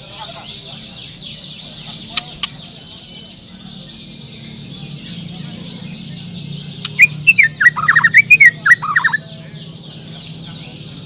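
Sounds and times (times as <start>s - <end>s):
songbird chorus: 0.0s - 11.0s.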